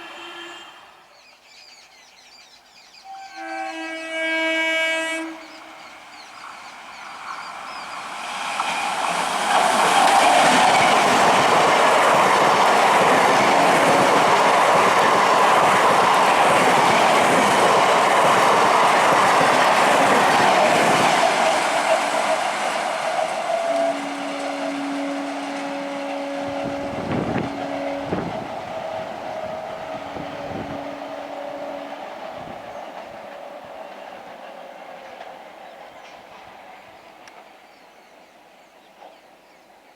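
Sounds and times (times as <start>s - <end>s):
train wheels rumbling on rails: 4.1s - 38.2s.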